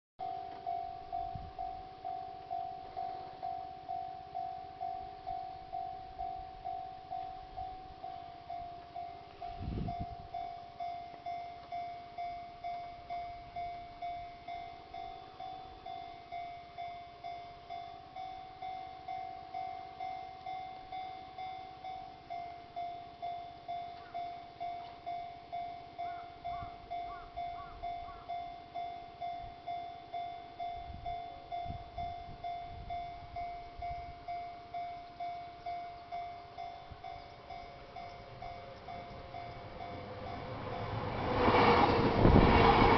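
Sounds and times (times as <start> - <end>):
level crossing bell ringing: 0.2 - 41.1.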